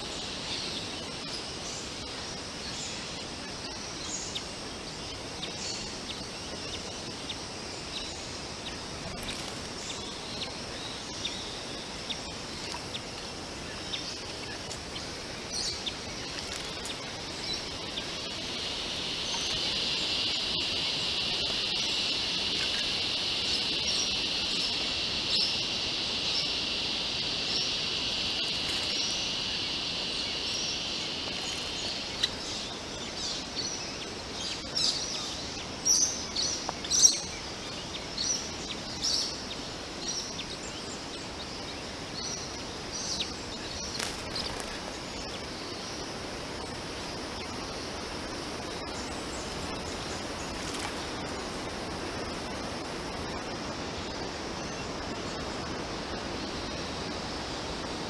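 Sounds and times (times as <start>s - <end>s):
small birds chirping: 0.0s - 58.0s
steady high buzz: 0.0s - 58.0s.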